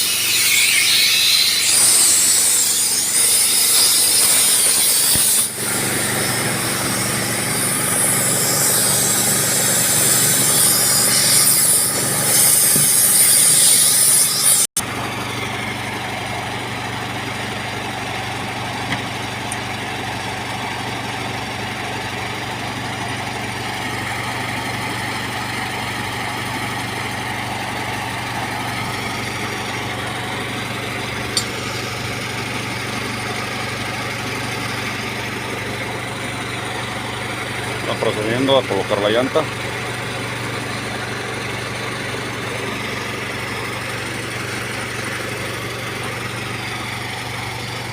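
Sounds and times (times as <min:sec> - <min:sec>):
low mechanical hum: 0:00.0 - 0:47.9.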